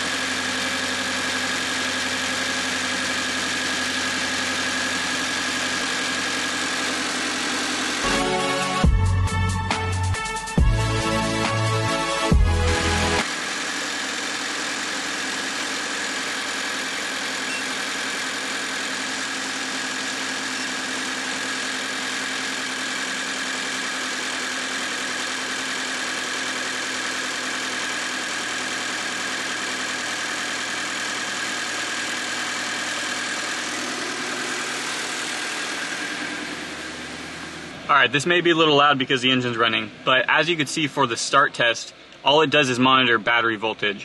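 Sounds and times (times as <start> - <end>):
car engine fast idle: 0.0 - 8.2, 13.2 - 41.3.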